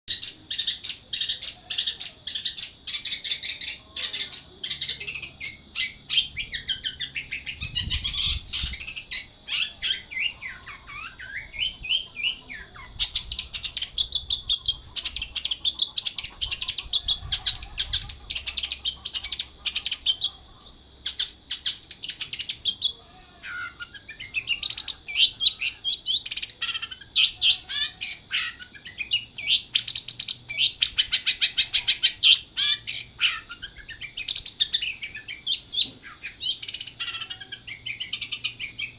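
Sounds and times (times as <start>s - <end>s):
bird singing: 0.1s - 38.9s
steady high-pitched whine: 0.1s - 38.9s.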